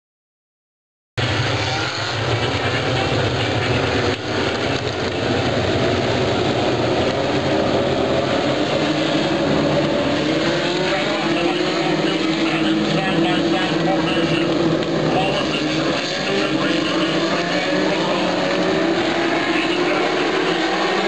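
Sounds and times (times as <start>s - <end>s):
race car engines at speed: 1.2s - 21.0s.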